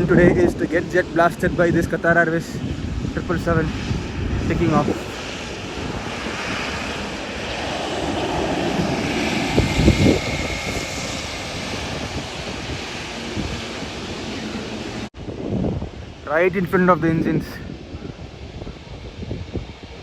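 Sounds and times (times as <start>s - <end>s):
jet engines running with whine: 0.0s - 20.0s
wind buffeting microphone: 0.0s - 20.0s.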